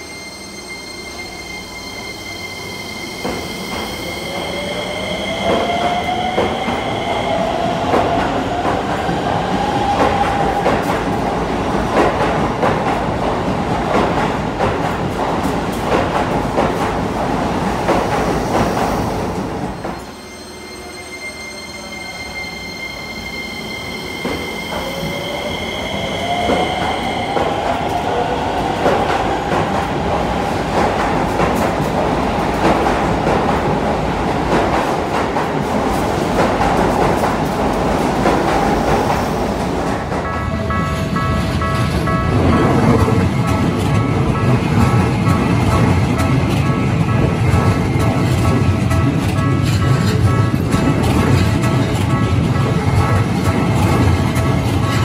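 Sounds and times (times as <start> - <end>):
train wheels rumbling and clattering: 3.1 - 20.1, 24.0 - 55.0.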